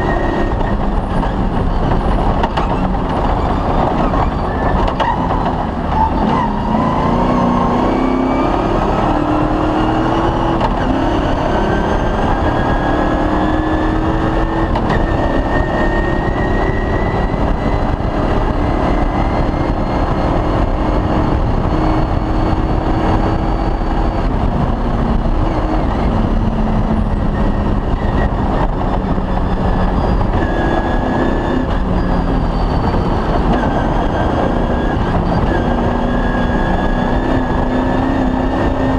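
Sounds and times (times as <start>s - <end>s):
rally car engine running hard: 0.0s - 38.9s
rumble and rattle: 0.0s - 38.9s.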